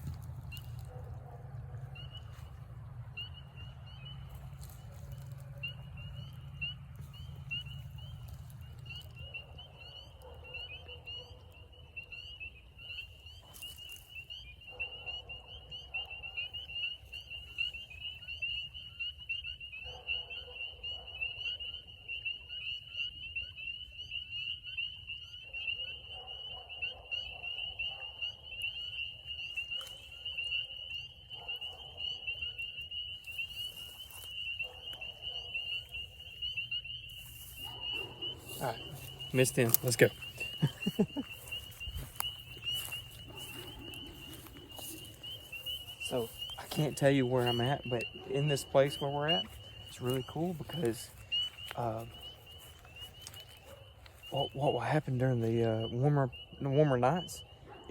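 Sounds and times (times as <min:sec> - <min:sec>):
lower frog calling: 0:00.0 - 0:57.9
spring peepers chorus: 0:00.0 - 0:57.9.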